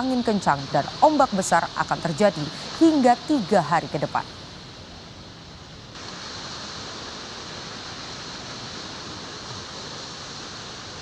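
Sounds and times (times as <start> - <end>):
surf on the shore: 0.0 - 11.0
wind: 0.0 - 11.0.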